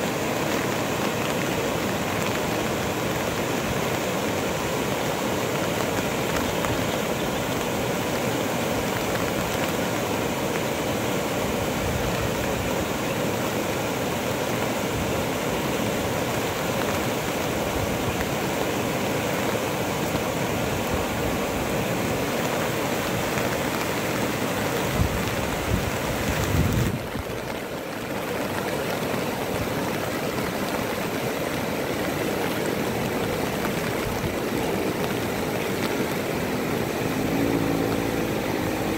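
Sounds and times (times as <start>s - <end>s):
floodwater rushing: 0.0s - 38.9s.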